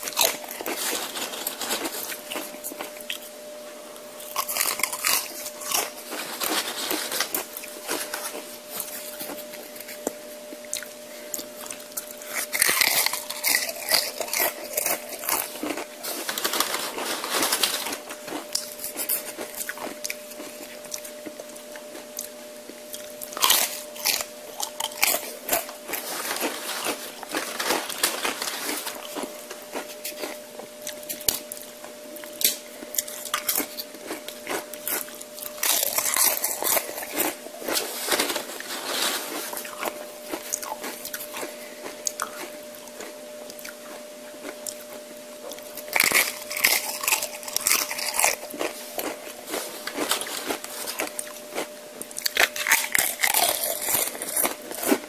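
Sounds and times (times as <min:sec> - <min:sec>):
tortilla chips crunching: 0:00.0 - 0:03.3, 0:04.2 - 0:55.0
faint steady hum: 0:00.0 - 0:55.0
wet chewing: 0:04.2 - 0:22.3, 0:22.9 - 0:38.5, 0:39.2 - 0:55.0.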